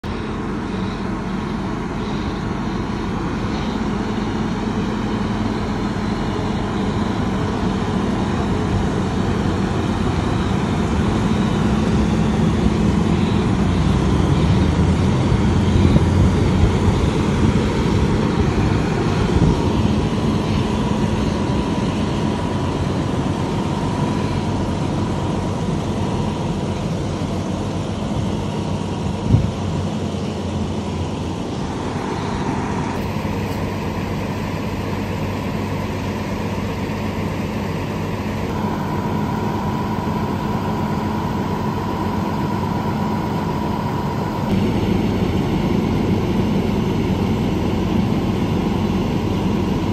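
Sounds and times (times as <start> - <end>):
diesel engine rumbling: 0.0 - 49.9.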